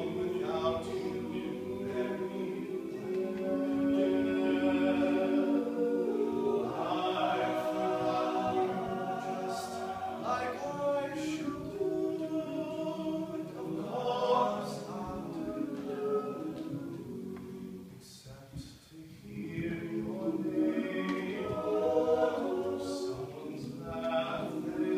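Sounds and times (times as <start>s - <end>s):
male a cappella group singing: 0.0s - 24.9s.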